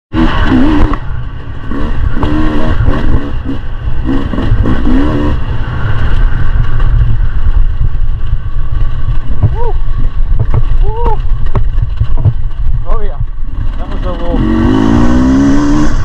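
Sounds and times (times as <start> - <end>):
dirt bike engine revving: 0.1 - 7.8, 10.4 - 16.0
wind rumble on microphone: 0.1 - 16.0.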